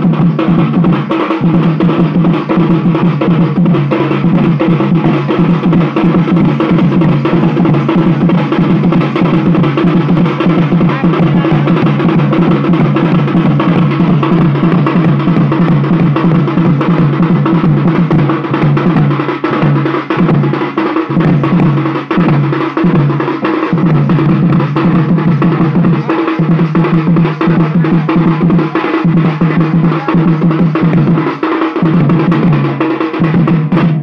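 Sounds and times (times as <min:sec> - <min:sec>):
drums beating dance rhythm: 0:00.0 - 0:34.0.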